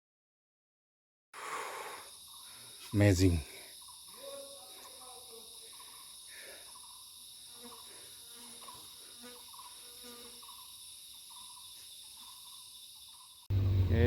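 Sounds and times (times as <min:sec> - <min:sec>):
high-pitched insect chorus: 0:01.4 - 0:14.0.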